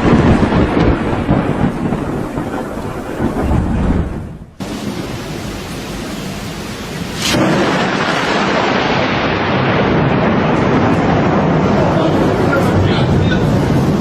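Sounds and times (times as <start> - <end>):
heavy rain: 0.0 - 14.0
wind: 0.0 - 14.0.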